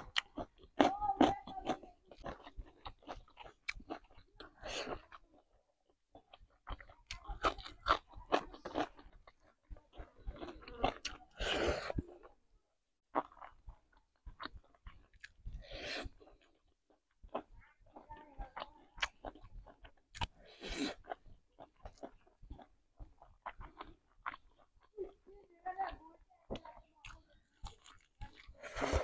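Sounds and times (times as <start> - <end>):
person chewing with mouth clicks: 0.0 - 12.4, 13.1 - 25.3, 26.6 - 29.0.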